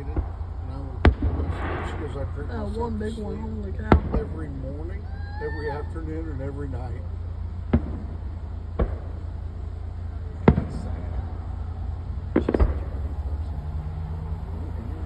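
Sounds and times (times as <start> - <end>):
distant fireworks booming: 0.0 - 15.0
low rumble: 0.0 - 15.0.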